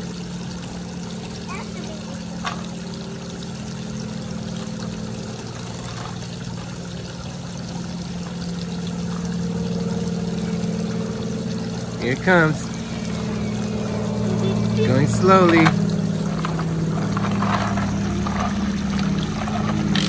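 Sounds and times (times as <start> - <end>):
steady low hum: 0.0 - 20.0
water trickling and pouring: 0.0 - 20.0.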